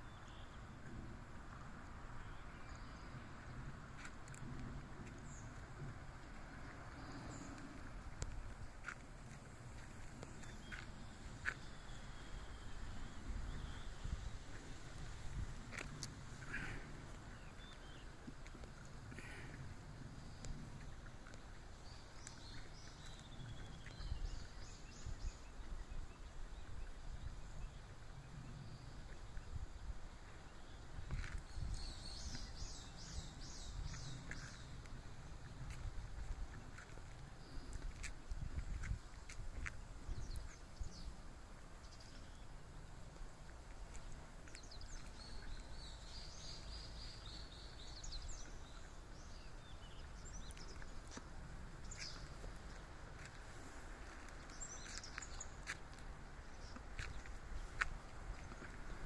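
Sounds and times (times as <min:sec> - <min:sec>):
faint outdoor rumble: 0:00.0 - 0:59.0
birdsong trills and chirps: 0:01.8 - 0:59.0.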